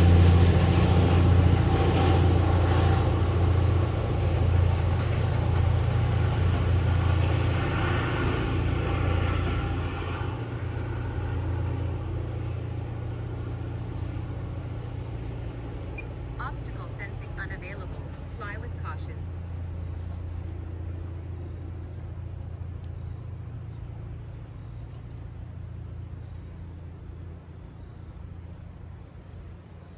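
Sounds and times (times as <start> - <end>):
diesel locomotive rumbling: 0.0 - 28.4.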